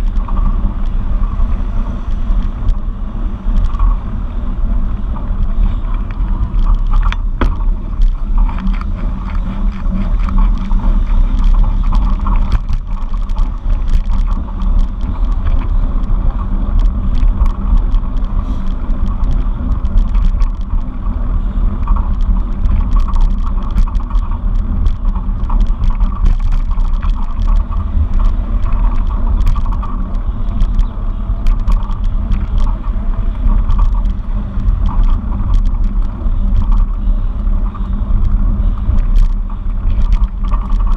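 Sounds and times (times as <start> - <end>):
bicycle road noise: 0.0 - 40.9
rattles and clicks from bumps: 0.0 - 40.9
wind rumble: 0.0 - 40.9.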